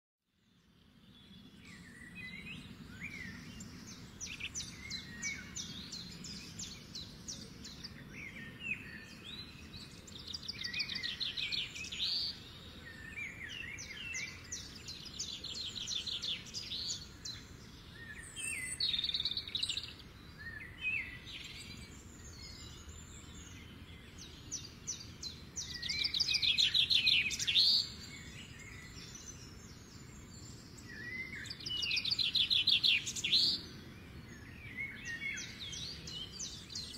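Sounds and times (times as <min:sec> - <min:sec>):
birds chirping and trilling: 0:00.4 - 0:36.9.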